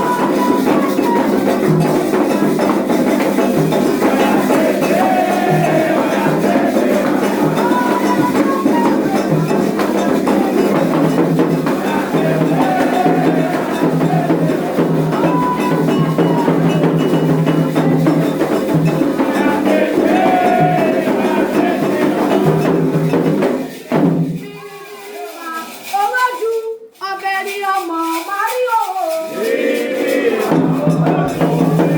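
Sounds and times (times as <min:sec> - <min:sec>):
voices singing: 0:00.0 - 0:25.2, 0:27.2 - 0:31.9
drum and percussion music: 0:00.0 - 0:31.9.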